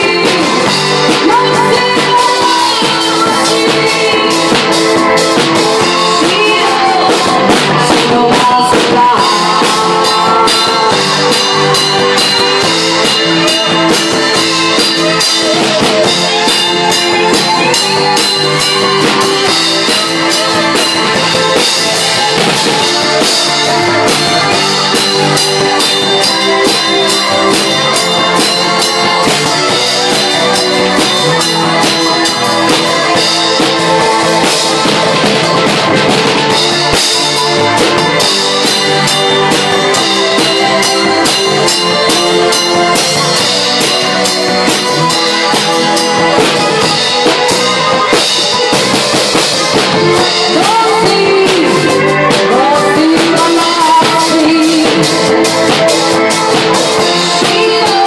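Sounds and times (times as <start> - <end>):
drum kit beat: 0.0 - 58.0
electric guitar: 0.0 - 58.0
electronic keyboard: 0.0 - 58.0.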